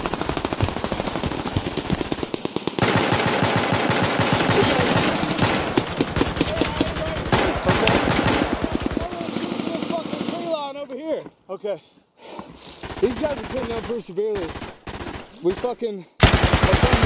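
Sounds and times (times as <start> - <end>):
automatic gunfire: 0.0 - 10.4, 12.8 - 17.0.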